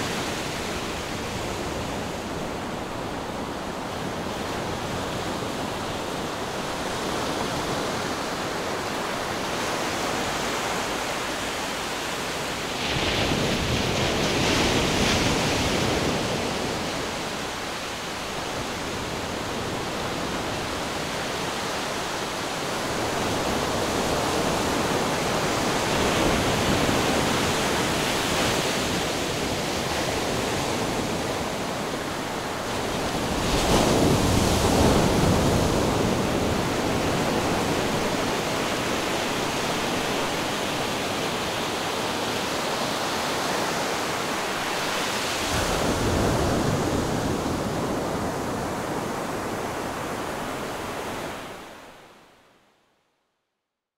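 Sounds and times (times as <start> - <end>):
waves breaking on beach: 0.0 - 52.2.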